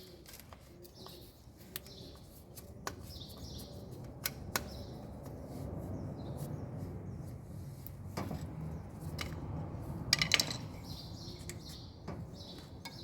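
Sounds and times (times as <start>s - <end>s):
small birds chirping: 0.0s - 9.1s, 10.6s - 13.0s.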